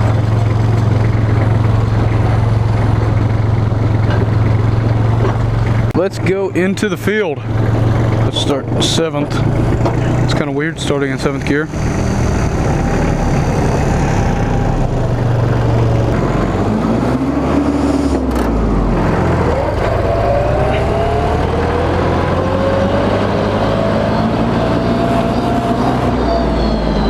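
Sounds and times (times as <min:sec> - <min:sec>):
rising engine whine: 0:00.0 - 0:27.0
tractor engine running under load: 0:00.0 - 0:27.0.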